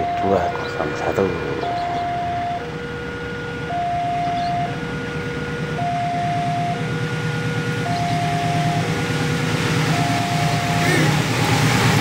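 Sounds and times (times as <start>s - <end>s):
level crossing two-tone alarm: 0.0s - 12.0s
train rumbling: 0.0s - 12.0s.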